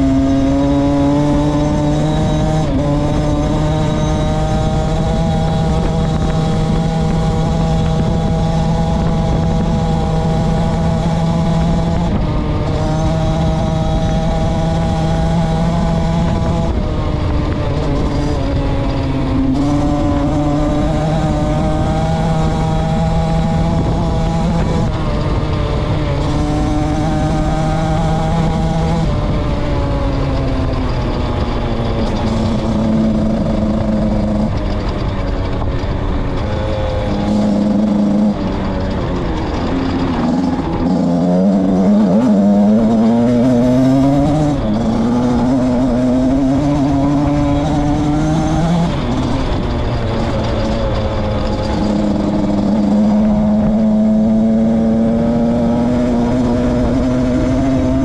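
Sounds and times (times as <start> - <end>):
two-stroke motorcycle engine: 0.0 - 58.0.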